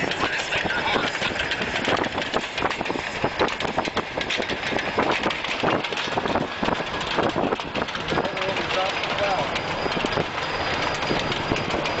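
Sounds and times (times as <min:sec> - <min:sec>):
locomotive pushing snowplow: 0:00.0 - 0:12.0.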